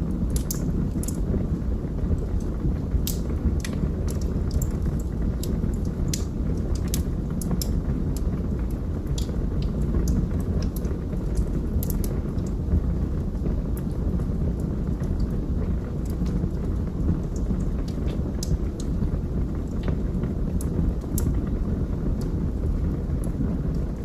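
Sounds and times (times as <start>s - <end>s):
low rumble of flames: 0.0s - 24.0s
wood crackling and popping: 0.0s - 24.0s.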